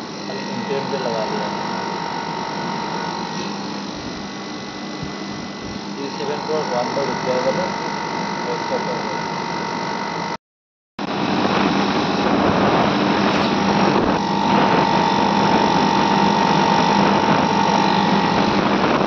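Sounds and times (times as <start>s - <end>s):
air conditioner running: 0.0s - 10.4s, 11.0s - 19.0s
faint steady whine: 0.0s - 10.4s, 11.0s - 19.0s.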